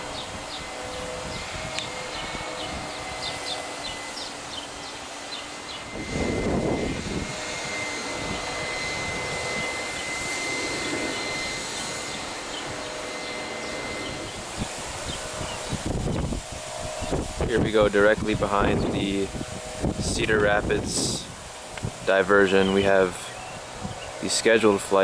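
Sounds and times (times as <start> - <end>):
jet engines rushing with whine: 0.0 - 25.0.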